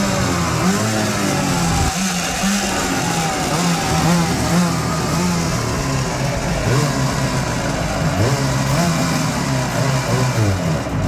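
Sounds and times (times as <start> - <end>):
two-stroke engine running unevenly: 0.0 - 11.0.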